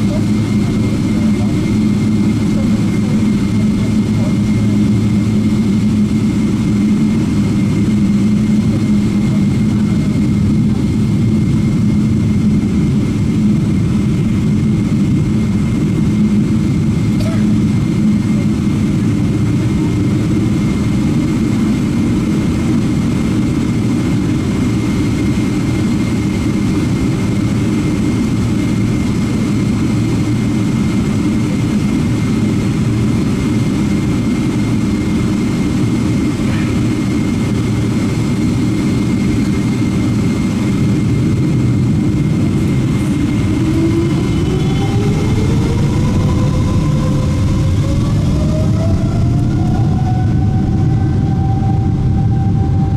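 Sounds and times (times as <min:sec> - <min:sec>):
jet engines rumbling: 0:00.0 - 0:52.9
jet engines whine spooling up: 0:00.0 - 0:52.9.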